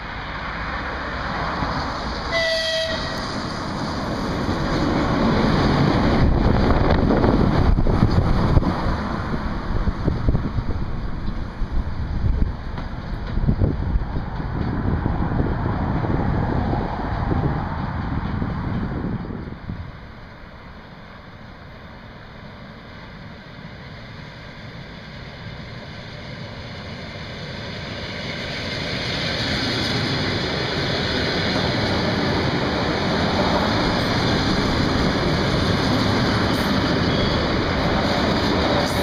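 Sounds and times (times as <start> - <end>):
electric train running past: 0.0 - 39.0.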